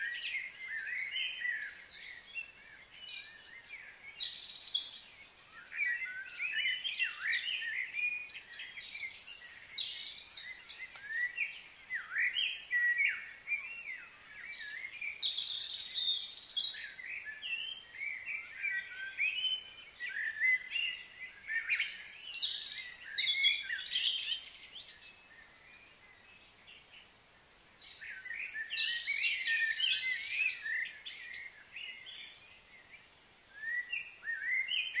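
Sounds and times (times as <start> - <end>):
small birds chirping and twittering: 0.0 - 35.0.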